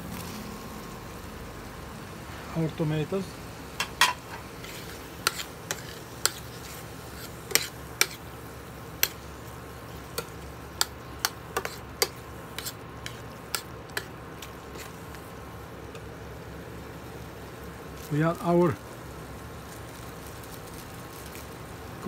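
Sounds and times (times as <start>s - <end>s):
vegetables sizzling: 0.0s - 22.0s.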